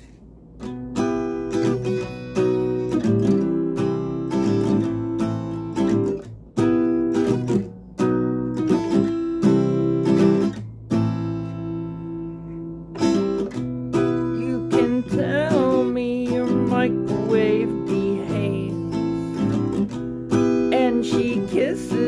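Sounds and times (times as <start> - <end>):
acoustic guitar strumming: 0.5 - 22.0.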